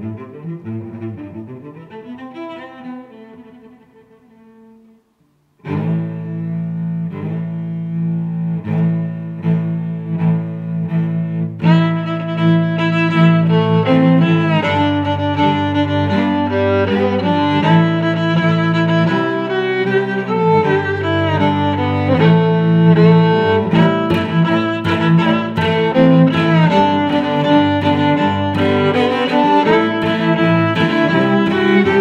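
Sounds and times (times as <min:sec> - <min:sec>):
instrumental background music: 0:05.6 - 0:32.0.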